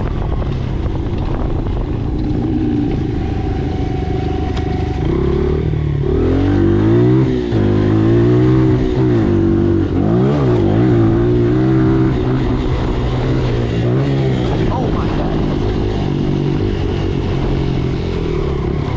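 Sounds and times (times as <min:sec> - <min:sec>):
dirt bike engine revving: 0:01.7 - 0:18.9.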